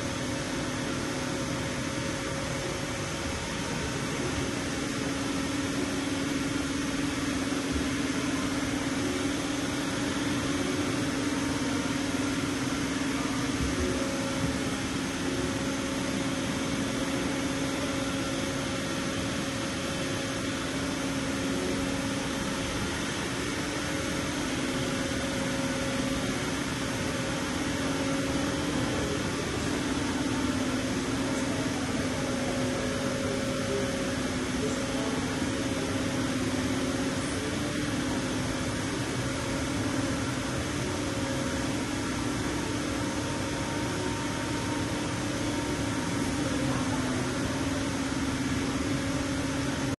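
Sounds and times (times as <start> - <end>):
milling machine humming: 0.0 - 50.0.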